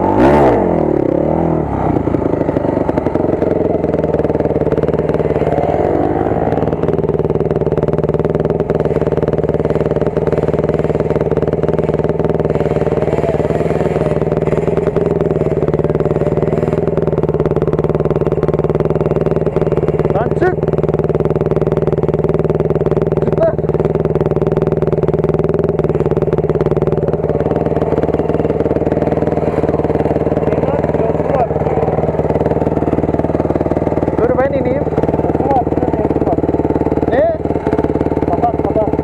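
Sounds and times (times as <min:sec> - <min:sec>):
dirt bike engine idling: 0:00.0 - 0:39.0.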